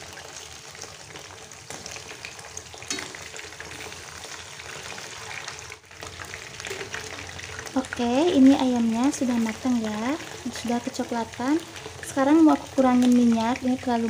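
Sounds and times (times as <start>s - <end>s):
chicken frying in hot oil: 0.0s - 14.0s.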